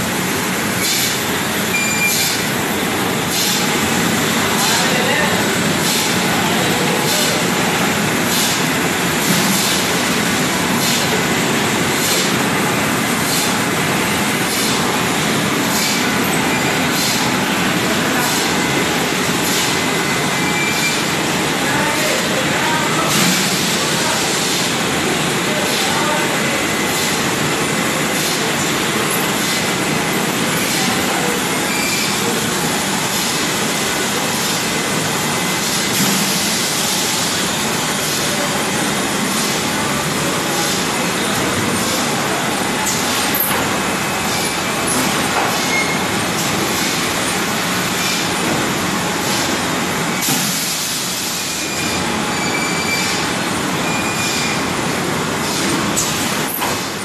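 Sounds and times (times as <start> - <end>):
bottling line machine hiss: 0.0 - 57.0.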